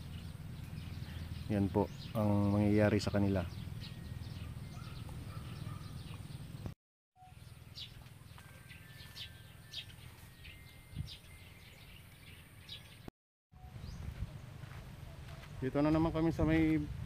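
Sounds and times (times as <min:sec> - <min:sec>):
birds chirping: 0:00.0 - 0:16.8.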